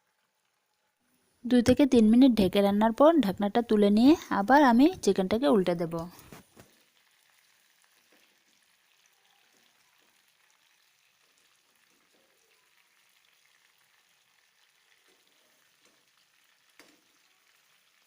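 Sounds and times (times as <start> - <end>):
chicken frying in a pan: 0.0 - 2.1, 2.9 - 18.0.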